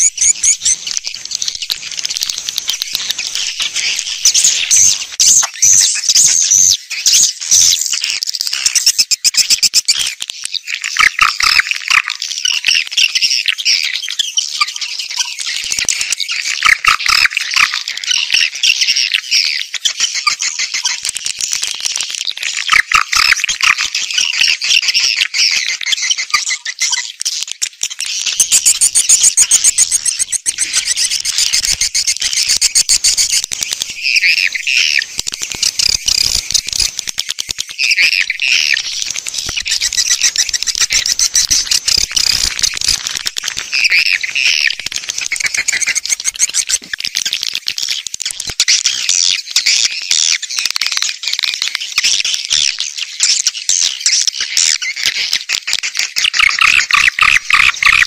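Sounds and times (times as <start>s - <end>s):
swiftlets twittering and clicking: 0.0s - 13.0s, 15.2s - 58.0s.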